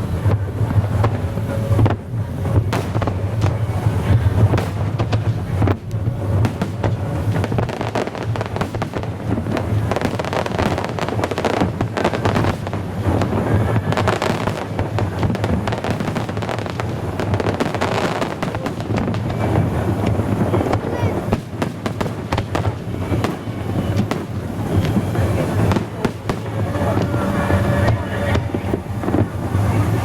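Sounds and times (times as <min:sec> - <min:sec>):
fireworks popping and crackling: 0:00.0 - 0:30.0
steady low rumble: 0:00.0 - 0:30.0.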